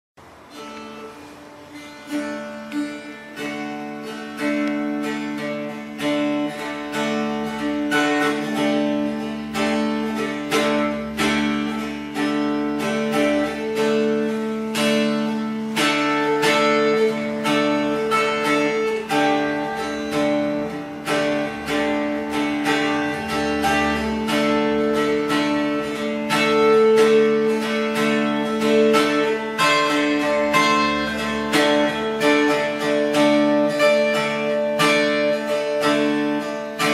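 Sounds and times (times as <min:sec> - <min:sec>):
acoustic guitar playing: 0:00.2 - 0:36.9.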